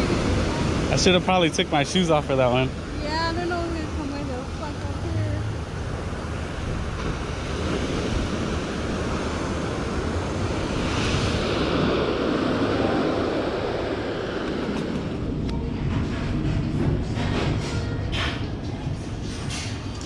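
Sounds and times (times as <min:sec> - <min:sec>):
ocean waves breaking: 0:00.0 - 0:19.9.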